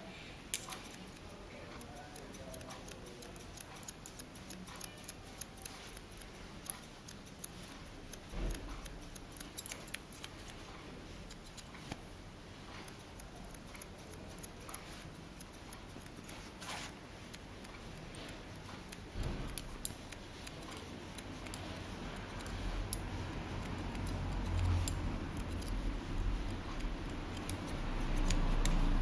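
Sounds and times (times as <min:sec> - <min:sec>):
scissors snipping hair: 0:00.5 - 0:12.0, 0:12.8 - 0:29.0.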